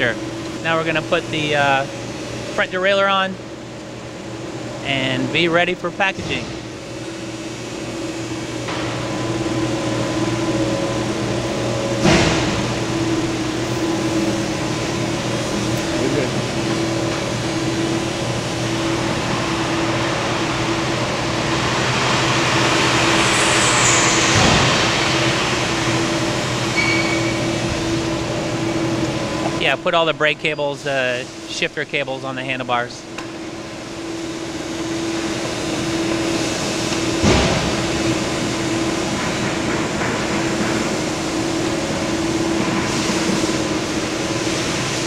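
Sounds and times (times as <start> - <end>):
factory machinery hum: 0.0 - 45.0.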